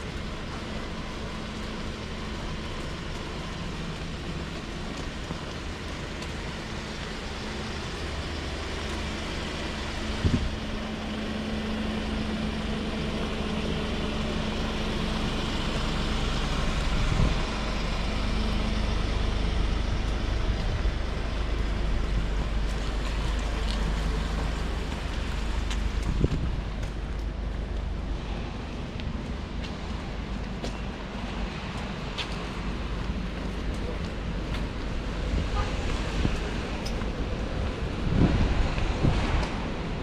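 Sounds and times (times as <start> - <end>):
motor vehicle rumble: 0.0 - 40.0.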